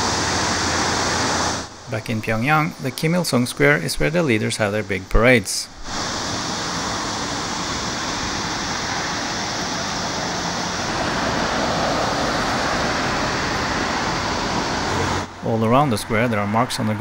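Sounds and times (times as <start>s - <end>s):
car passing by: 0.0s - 3.8s, 5.9s - 17.0s
outdoor street noise: 0.0s - 17.0s.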